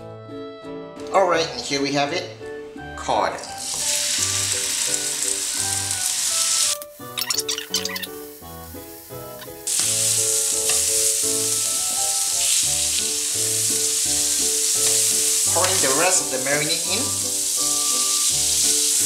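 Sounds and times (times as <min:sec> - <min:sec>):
background music: 0:00.0 - 0:19.0
fish sizzling in hot oil: 0:03.5 - 0:19.0.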